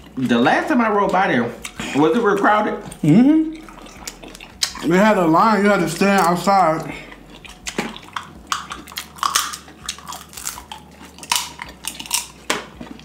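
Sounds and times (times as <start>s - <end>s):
people chewing and smacking: 0.0s - 13.0s.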